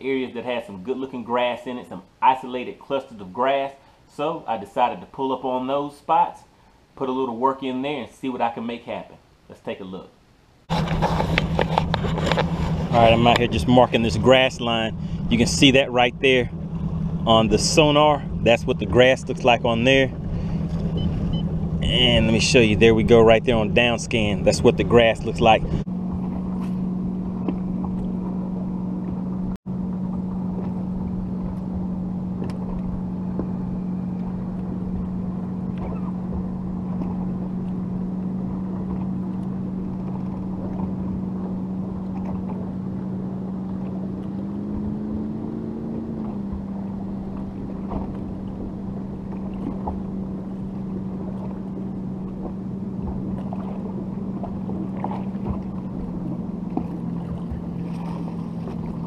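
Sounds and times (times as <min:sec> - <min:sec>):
boat motor humming: 0:10.6 - 0:59.0.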